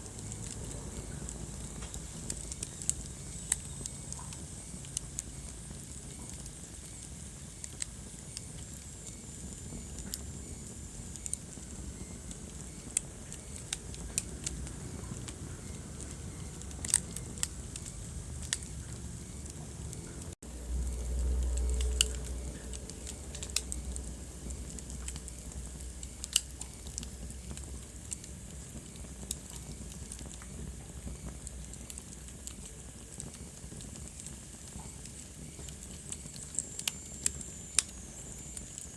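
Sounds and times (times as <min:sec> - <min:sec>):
fire crackling and popping: 0:00.0 - 0:38.9
fire rumbling: 0:00.0 - 0:38.9.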